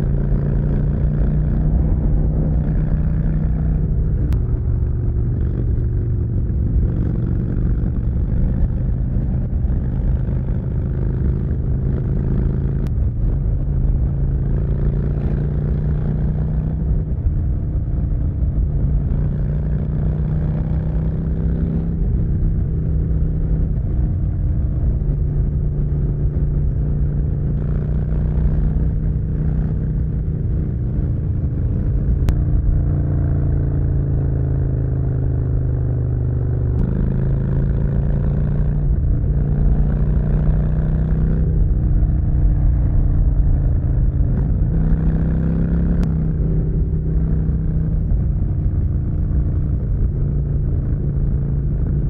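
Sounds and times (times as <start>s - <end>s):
motorcycle engine cruising drone: 0.0s - 52.0s.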